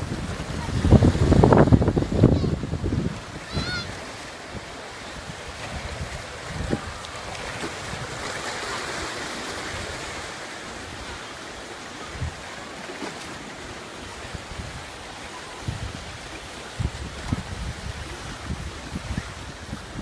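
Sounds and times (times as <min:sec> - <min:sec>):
ocean surf on beach: 0:00.0 - 0:20.0
wind on microphone: 0:00.0 - 0:20.0.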